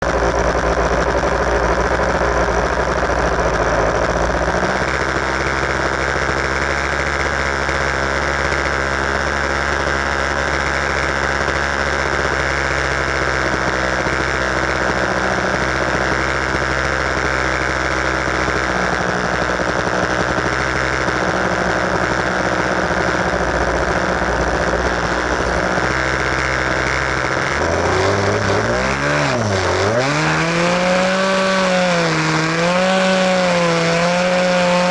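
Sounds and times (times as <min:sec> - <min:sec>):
model airplane engine running: 0:00.0 - 0:34.9.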